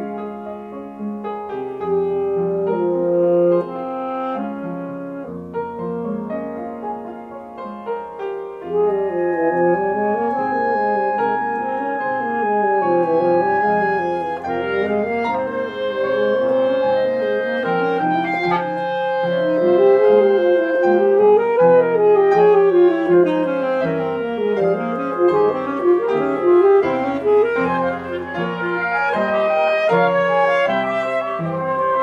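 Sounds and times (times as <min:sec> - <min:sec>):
woodwinds and piano chamber music: 0:00.0 - 0:32.0.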